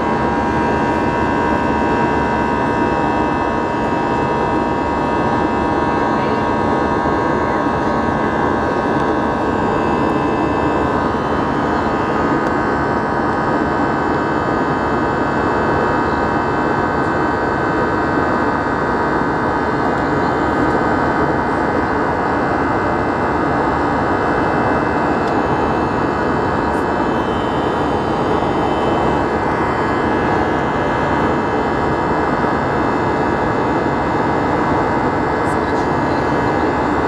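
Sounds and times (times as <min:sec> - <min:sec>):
jet engine and airflow drone: 0:00.0 - 0:37.0.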